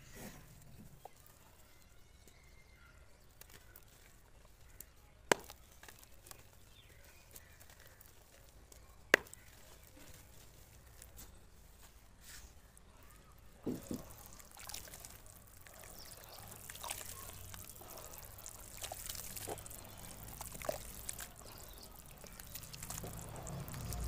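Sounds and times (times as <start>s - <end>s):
sharp cracks of snapping dirt: 1.9s - 11.4s, 13.3s - 24.0s
dirt crumbling in hands: 2.2s - 24.0s.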